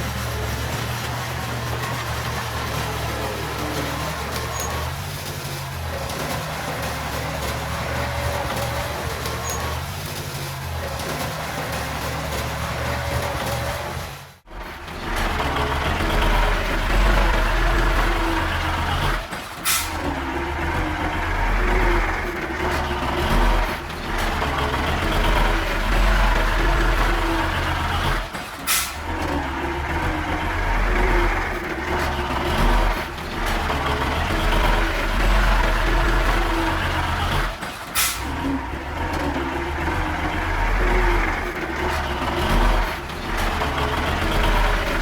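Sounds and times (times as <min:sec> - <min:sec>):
heavy diesel engine rumble: 0:00.0 - 0:45.0.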